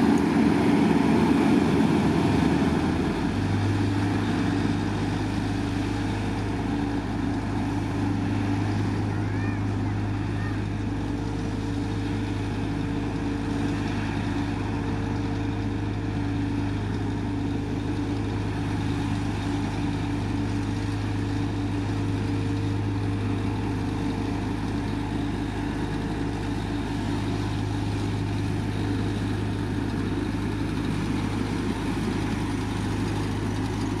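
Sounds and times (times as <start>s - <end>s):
diesel engine droning: 0.0s - 34.0s.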